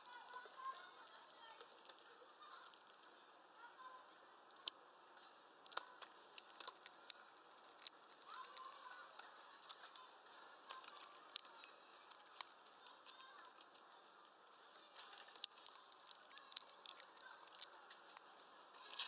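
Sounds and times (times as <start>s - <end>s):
bird cracking seeds: 0.4s - 3.1s, 5.7s - 10.0s, 10.6s - 19.0s.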